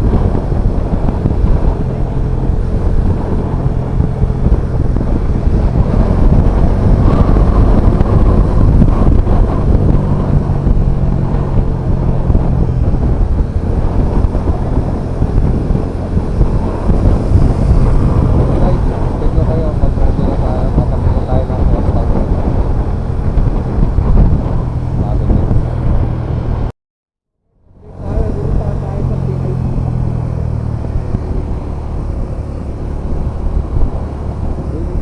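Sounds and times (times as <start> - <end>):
motorcycle engine running: 0.0 - 26.7, 27.6 - 35.0
wind on microphone: 0.0 - 26.7, 27.7 - 35.0.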